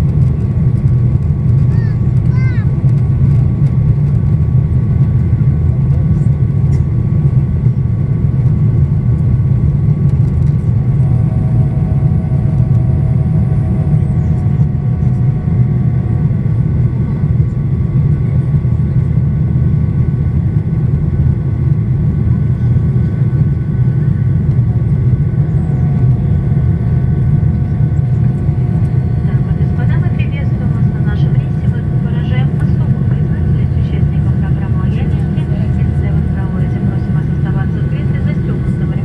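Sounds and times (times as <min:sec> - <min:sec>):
airflow and jet engines rumble: 0:00.0 - 0:39.0
faint steady whines: 0:00.0 - 0:39.0.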